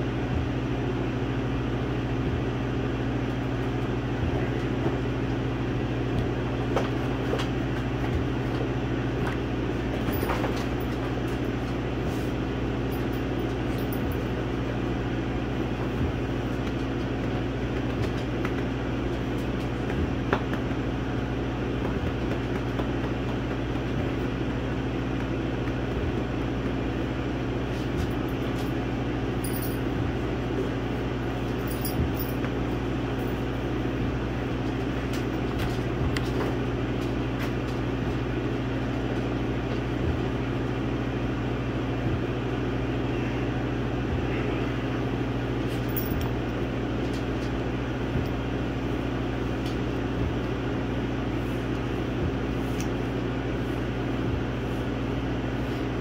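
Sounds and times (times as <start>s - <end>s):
laser engraver machine hum: 0.0s - 56.0s.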